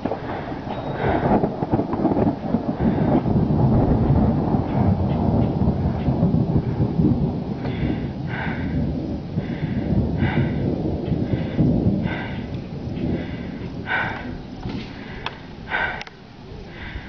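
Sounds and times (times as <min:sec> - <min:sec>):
low storm rumble: 0:00.0 - 0:17.0
person breathing hard: 0:00.1 - 0:03.4, 0:06.6 - 0:17.0.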